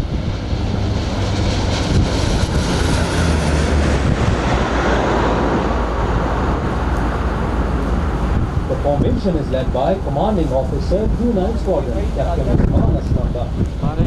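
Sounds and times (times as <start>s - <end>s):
turboprop aircraft droning: 0.0s - 14.0s
wind noise on microphone: 0.0s - 14.0s.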